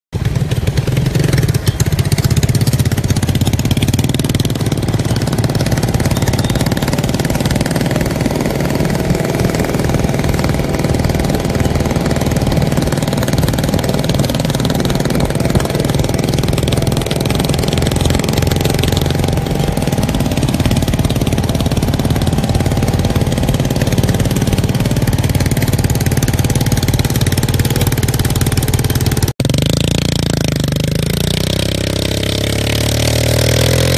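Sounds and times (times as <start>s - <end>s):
small engine running steadily: 0.2s - 33.9s.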